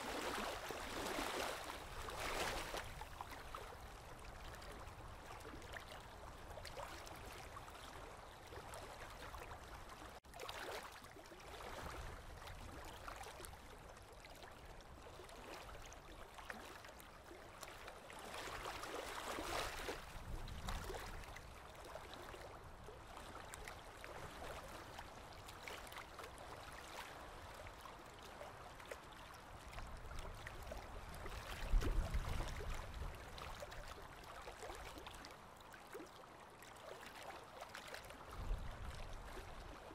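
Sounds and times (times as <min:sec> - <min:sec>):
river waves lapping on shore: 0:00.0 - 0:39.9.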